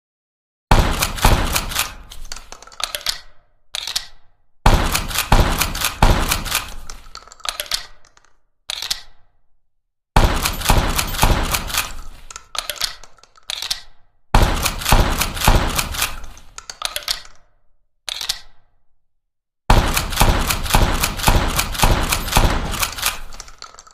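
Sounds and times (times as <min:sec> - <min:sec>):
shotgun shots and lever action: 0:00.7 - 0:09.4, 0:10.2 - 0:18.8, 0:19.7 - 0:23.9.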